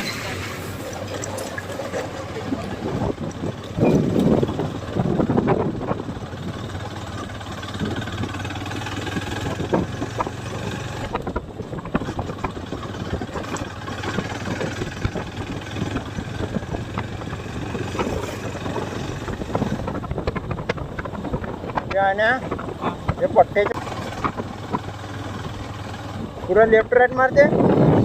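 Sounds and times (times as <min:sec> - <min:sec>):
motorcycle engine running: 0:00.0 - 0:28.0
wind noise on microphone: 0:00.0 - 0:28.0.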